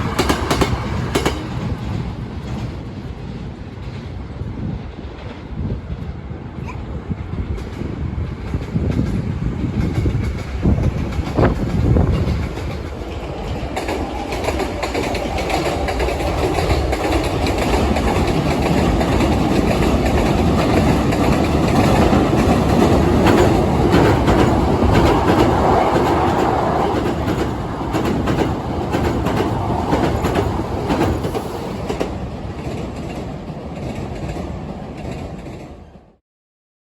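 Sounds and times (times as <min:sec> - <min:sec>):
train wheels clacking on rail joints: 0:00.0 - 0:04.2, 0:04.9 - 0:36.0
heavy train rumble: 0:00.0 - 0:36.2.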